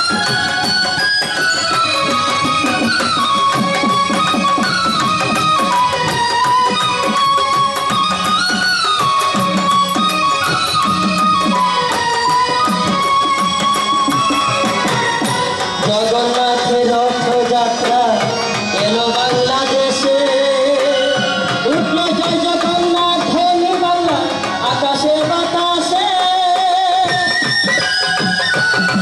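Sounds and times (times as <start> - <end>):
hand drum rhythm: 0.0 - 29.0.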